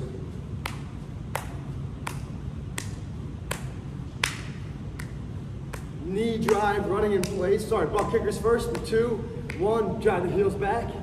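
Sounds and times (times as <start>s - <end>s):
steady low hum: 0.0s - 11.0s
hand claps: 0.6s - 9.8s.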